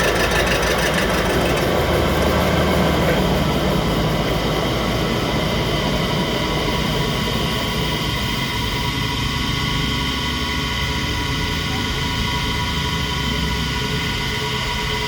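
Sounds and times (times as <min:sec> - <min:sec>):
workshop machine running: 0:00.0 - 0:15.0.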